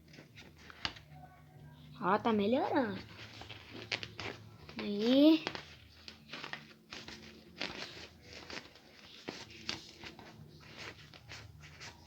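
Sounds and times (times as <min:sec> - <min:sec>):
rustling and crinkling: 0:00.0 - 0:01.2, 0:02.2 - 0:12.0.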